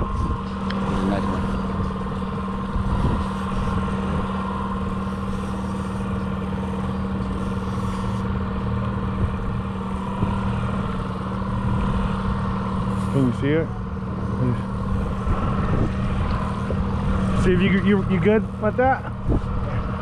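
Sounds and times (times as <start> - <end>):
outboard motor humming: 0.0 - 20.0.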